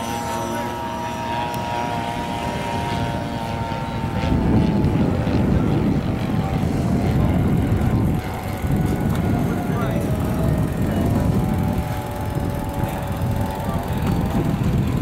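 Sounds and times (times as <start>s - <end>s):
model airplane motor droning: 0.0s - 15.0s.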